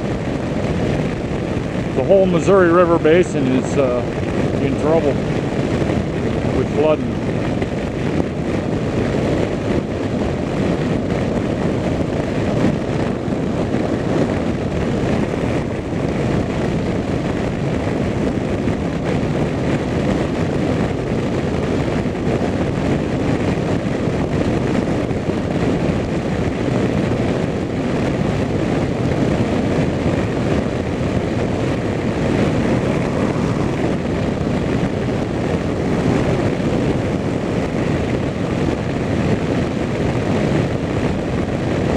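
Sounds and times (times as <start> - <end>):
engine drone: 0.0 - 41.9
wind and road noise: 0.0 - 41.9.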